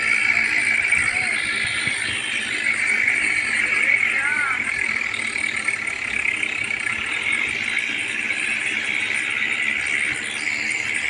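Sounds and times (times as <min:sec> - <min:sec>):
tractor running with rattle: 0:00.0 - 0:11.0.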